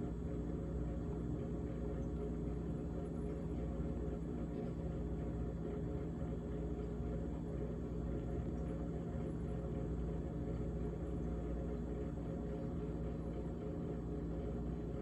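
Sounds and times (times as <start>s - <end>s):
refrigerator humming: 0.0s - 15.0s.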